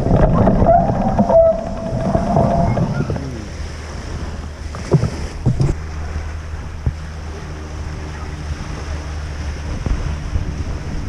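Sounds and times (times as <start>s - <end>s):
low hum: 0.0s - 11.0s
wind buffeting microphone: 0.0s - 11.0s.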